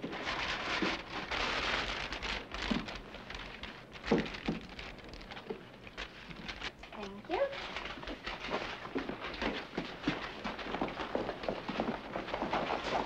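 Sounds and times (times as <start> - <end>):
paper bag rustling: 0.0 - 13.0.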